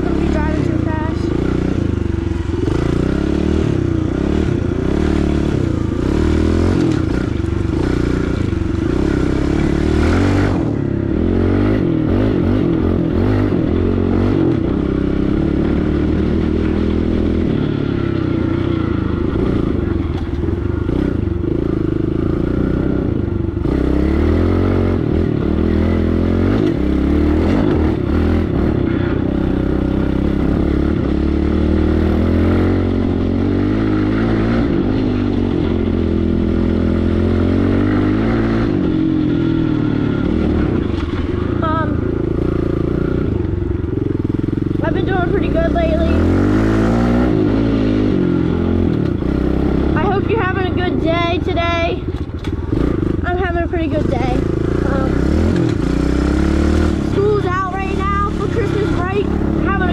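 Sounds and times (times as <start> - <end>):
small motorbike engine revving: 0.0 - 59.9.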